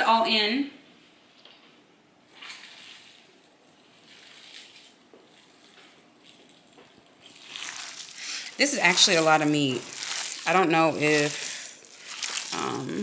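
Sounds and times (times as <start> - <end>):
hands kneading wet meat mixture: 2.3 - 13.0.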